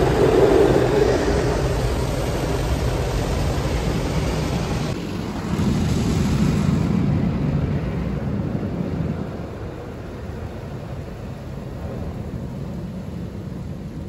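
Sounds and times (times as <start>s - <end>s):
car wash machinery rushing: 0.0s - 14.0s.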